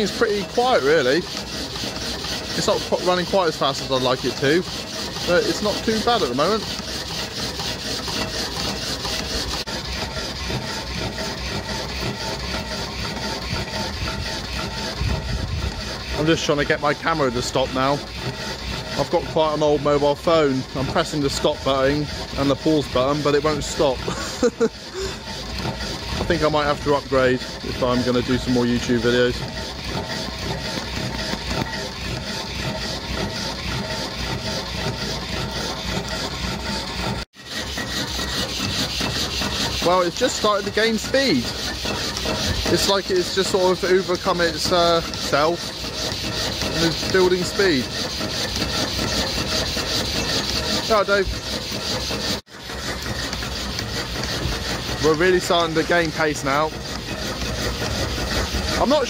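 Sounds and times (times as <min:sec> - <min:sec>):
engine rhythmic swishing: 0:00.0 - 0:59.0.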